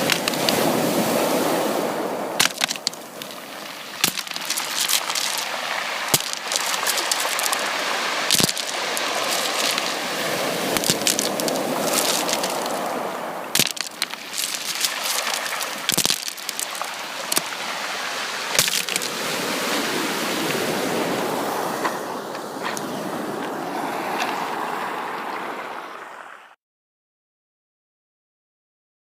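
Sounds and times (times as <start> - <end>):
sea waves washing onto shore: 0.0 - 26.4.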